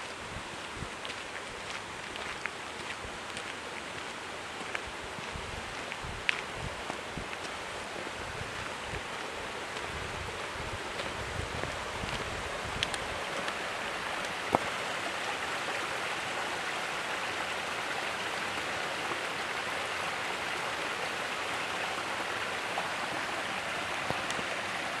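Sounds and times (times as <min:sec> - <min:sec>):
stream running over rocks: 0:00.0 - 0:25.0.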